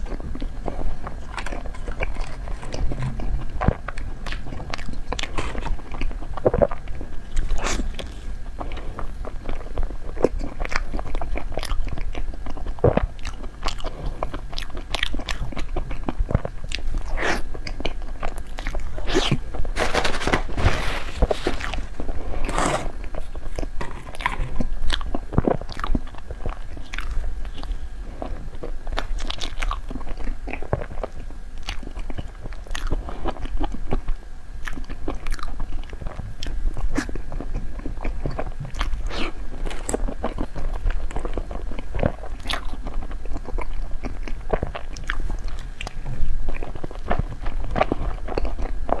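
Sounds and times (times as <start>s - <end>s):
biting into soft dessert: 0.0s - 49.0s
wet chewing with small crunches: 0.0s - 49.0s.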